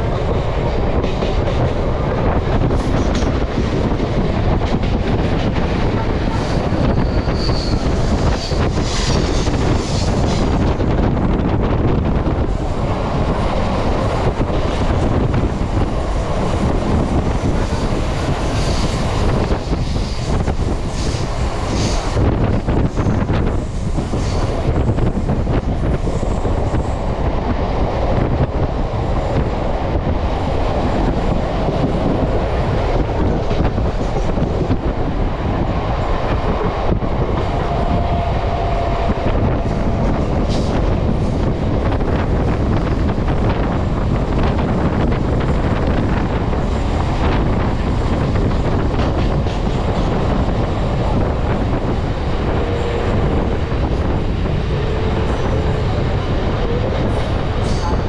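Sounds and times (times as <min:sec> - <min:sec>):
rail joint clicks: 0:00.0 - 0:58.0
train wheels rumbling: 0:00.0 - 0:58.0
wind buffeting microphone: 0:00.0 - 0:58.0.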